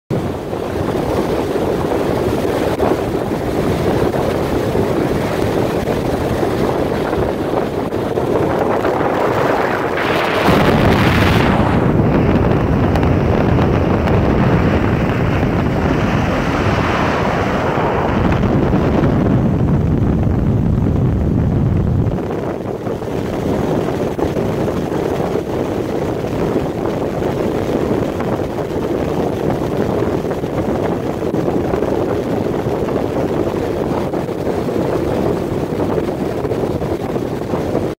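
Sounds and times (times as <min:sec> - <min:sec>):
motorboat engine rumble: 0:00.1 - 0:37.9
water noise: 0:00.1 - 0:37.9
wind buffeting microphone: 0:00.1 - 0:38.0.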